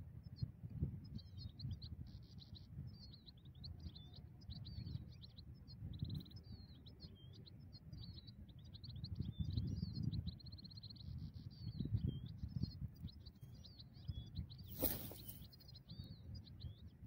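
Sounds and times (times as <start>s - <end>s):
goldfinch twittering song: 0.2s - 17.0s.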